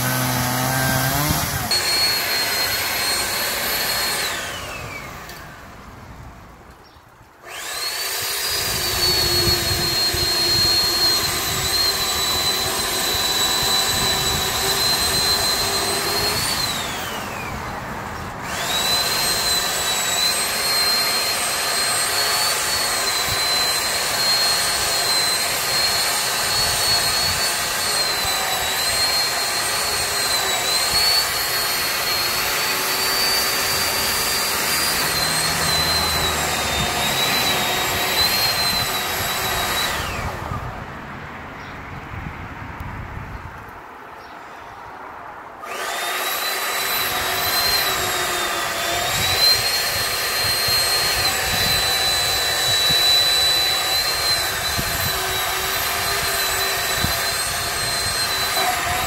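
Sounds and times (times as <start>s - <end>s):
chainsaw cutting wood: 0.0s - 5.8s, 7.3s - 40.8s, 45.6s - 59.0s.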